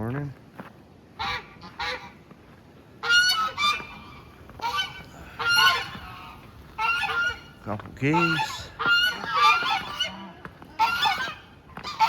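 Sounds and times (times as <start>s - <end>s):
geese honking: 1.2s - 2.2s, 3.0s - 12.0s.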